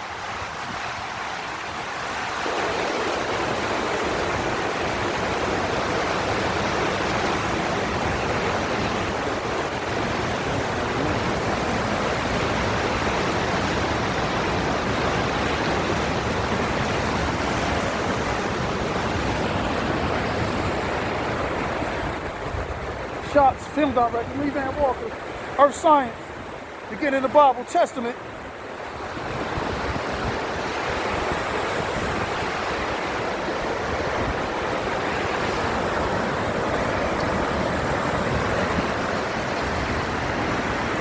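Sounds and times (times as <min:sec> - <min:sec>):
rushing water: 0:00.0 - 0:41.0.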